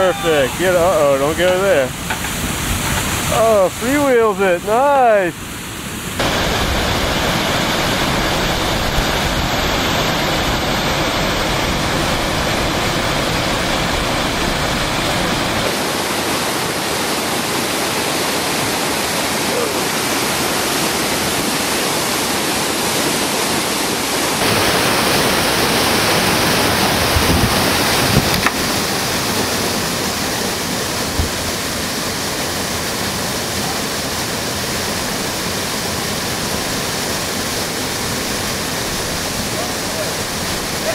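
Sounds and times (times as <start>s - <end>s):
whitewater rushing over rocks: 0.0s - 40.9s.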